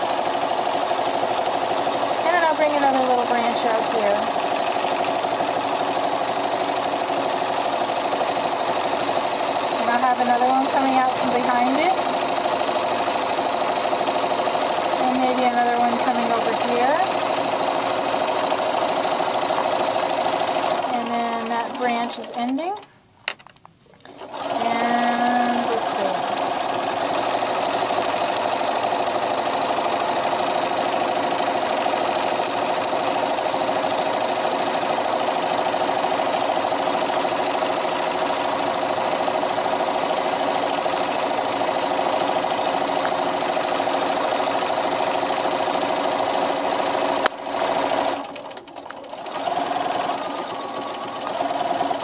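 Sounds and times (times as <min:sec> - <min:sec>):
sewing machine stitching: 0:00.0 - 0:22.8, 0:24.0 - 0:52.0.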